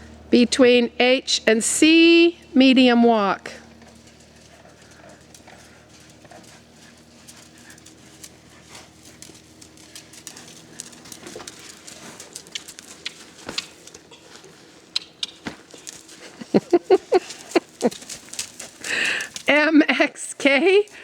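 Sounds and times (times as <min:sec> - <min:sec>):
horse hooves walking: 0:02.4 - 0:21.0.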